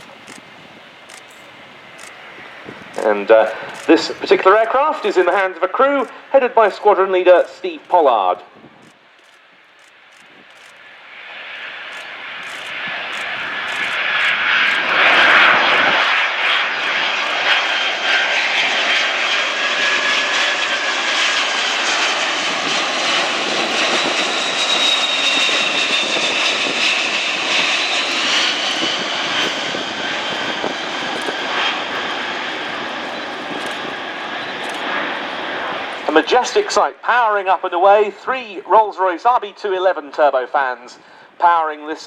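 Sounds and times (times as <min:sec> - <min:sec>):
jet aircraft roar: 0:00.0 - 0:42.0.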